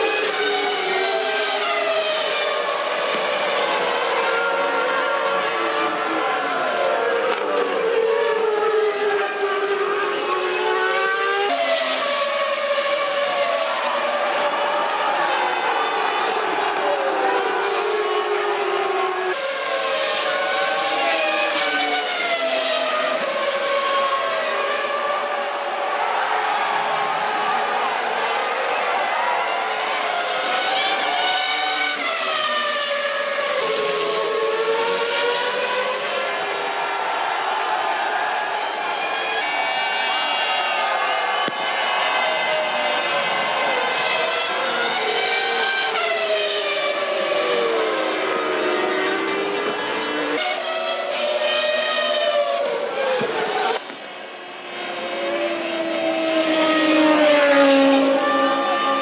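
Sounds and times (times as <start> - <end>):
racing car engines downshifting: 0.0 - 59.0.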